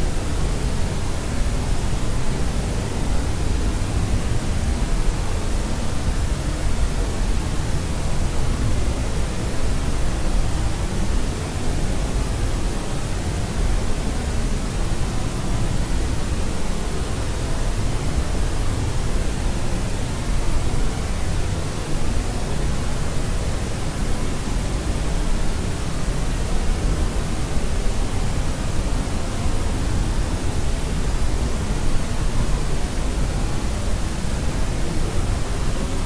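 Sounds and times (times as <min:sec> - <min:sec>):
white noise hiss: 0:00.0 - 0:36.0.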